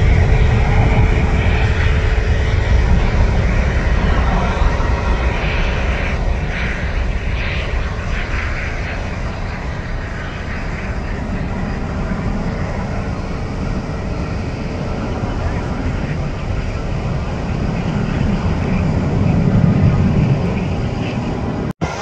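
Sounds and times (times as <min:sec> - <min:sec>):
jet engines low rumble: 0:00.0 - 0:22.0.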